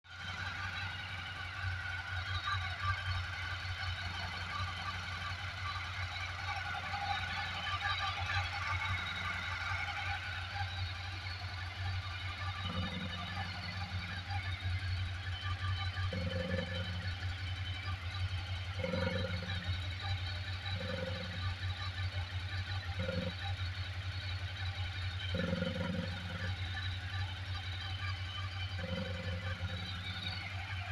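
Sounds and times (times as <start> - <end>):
engine rattle: 0.0 - 30.9
motorcycle engine idling: 0.0 - 30.9.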